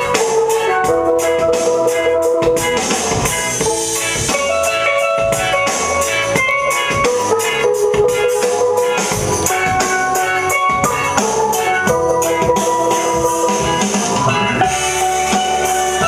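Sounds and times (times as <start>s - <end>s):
drum kit beat: 0.0s - 16.0s
steel pan melody: 0.0s - 16.0s.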